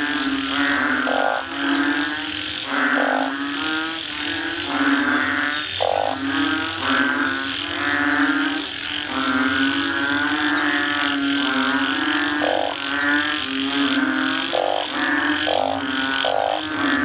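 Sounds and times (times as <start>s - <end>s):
frogs croaking: 0.0s - 17.0s
higher frog croak: 0.0s - 17.0s.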